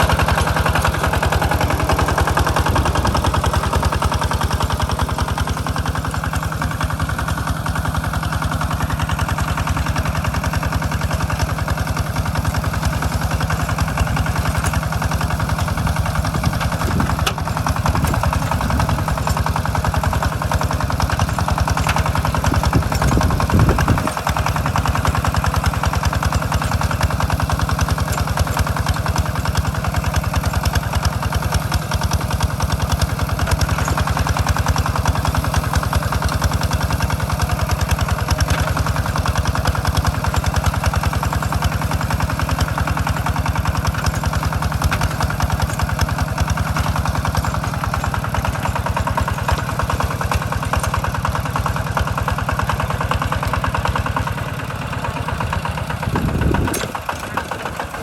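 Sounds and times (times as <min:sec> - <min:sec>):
small tractor engine chugging: 0:00.0 - 0:58.0.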